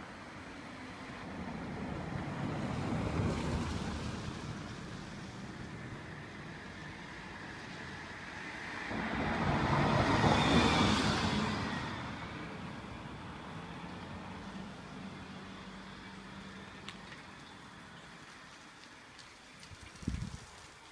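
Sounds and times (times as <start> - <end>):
vehicles passing by: 0.0 - 20.3.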